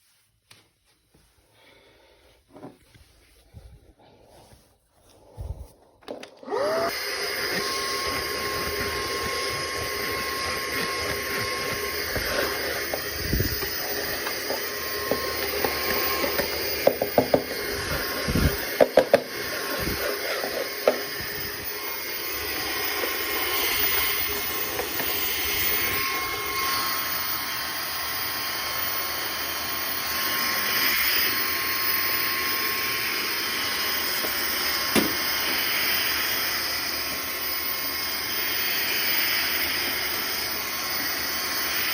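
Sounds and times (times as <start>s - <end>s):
vacuum cleaner running: 5.3s - 41.9s.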